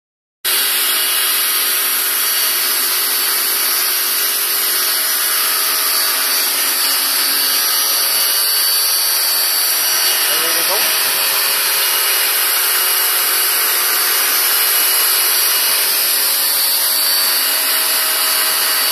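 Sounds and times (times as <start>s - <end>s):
pressure washer motor whining: 0.6s - 18.9s.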